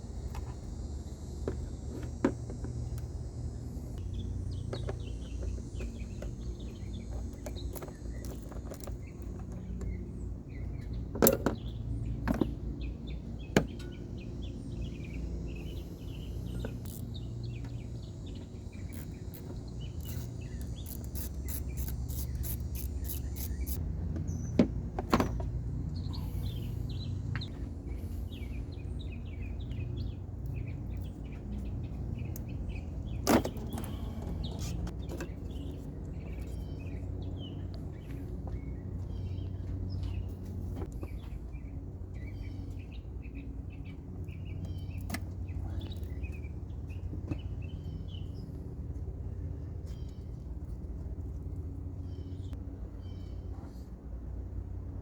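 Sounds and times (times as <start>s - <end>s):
birds chirping: 0.1s - 53.8s.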